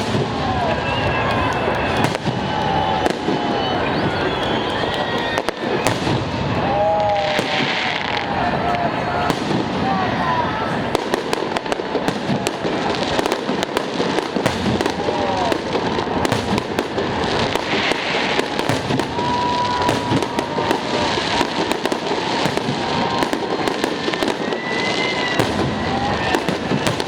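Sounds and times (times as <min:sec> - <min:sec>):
fireworks crackling: 0:00.0 - 0:27.0
fireworks whistling: 0:00.0 - 0:27.0.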